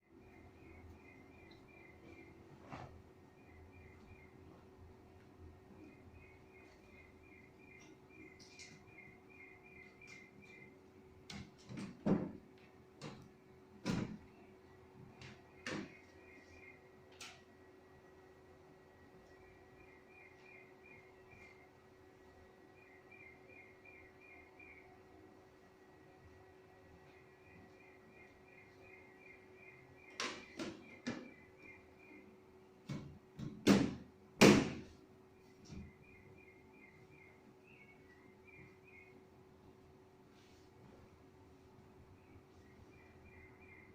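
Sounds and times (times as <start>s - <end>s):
faint bird chirps: 0.0s - 11.0s, 14.2s - 32.8s, 35.4s - 43.9s
faint steady hum: 0.0s - 43.9s.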